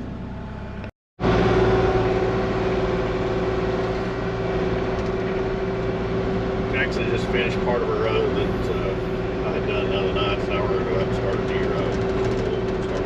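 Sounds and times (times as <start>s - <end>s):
constant whine: 0.0s - 13.0s
diesel engine running: 0.0s - 13.0s.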